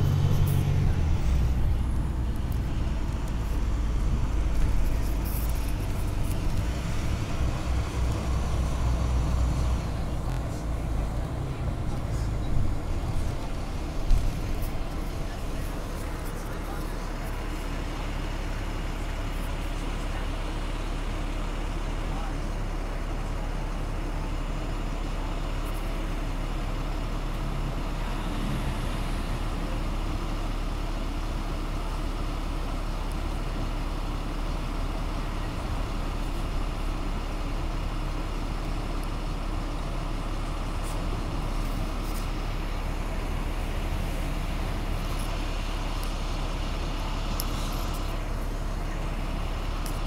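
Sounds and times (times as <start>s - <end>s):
diesel bus engine droning: 0.0s - 50.0s
road noise: 0.0s - 50.0s.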